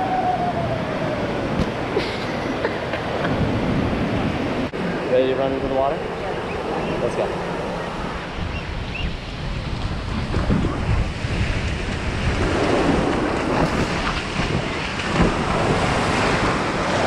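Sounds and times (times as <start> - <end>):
breaking surf: 0.0 - 17.0
wind rumbling on microphone: 0.0 - 17.0.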